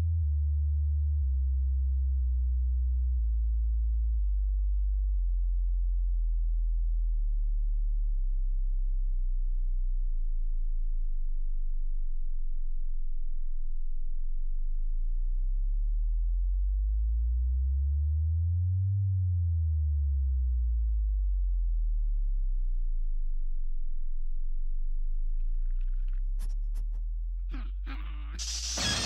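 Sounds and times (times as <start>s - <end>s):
low sine tone: 0.0s - 29.0s.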